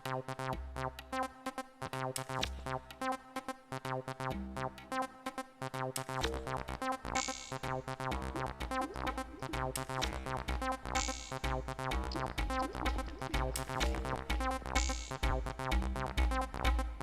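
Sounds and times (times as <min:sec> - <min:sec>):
electronic dub music: 0:00.0 - 0:17.0.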